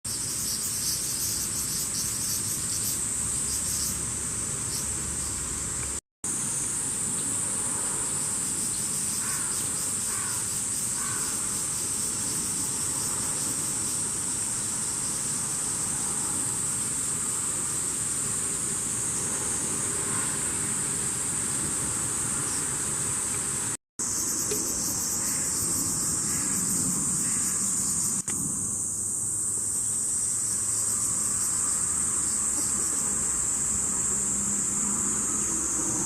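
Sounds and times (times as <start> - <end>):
insects chorus: 0.1 - 36.0.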